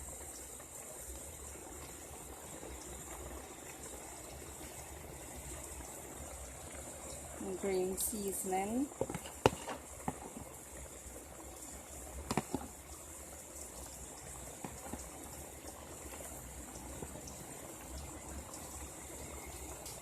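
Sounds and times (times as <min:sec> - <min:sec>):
pot simmering and bubbling: 0:00.0 - 0:20.0.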